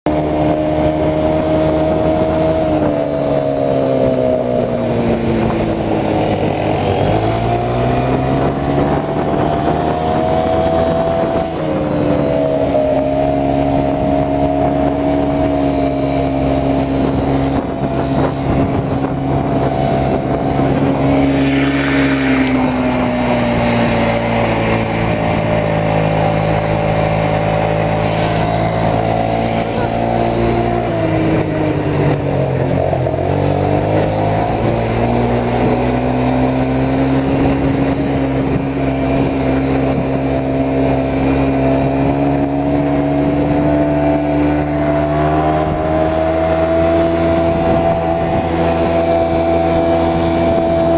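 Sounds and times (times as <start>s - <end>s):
quad bike engine running: 0.1s - 50.9s.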